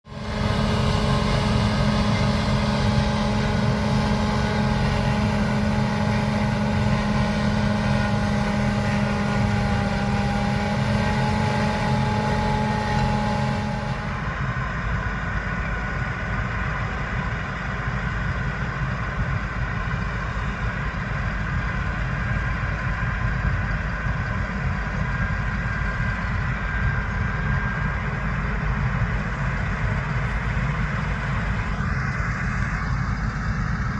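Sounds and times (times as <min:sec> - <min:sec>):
diesel machinery running: 0:00.0 - 0:33.9.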